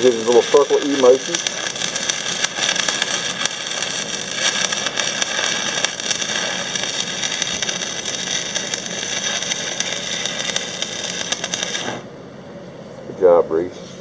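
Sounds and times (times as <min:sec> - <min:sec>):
welding arc crackling hiss: 0:00.0 - 0:12.1.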